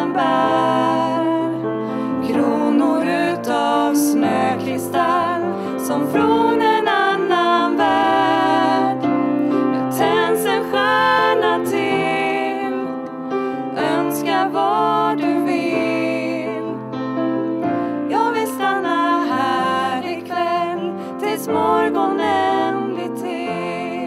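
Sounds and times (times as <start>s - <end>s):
women singing: 0.0s - 16.9s, 17.8s - 24.0s
piano accompaniment: 0.0s - 24.0s.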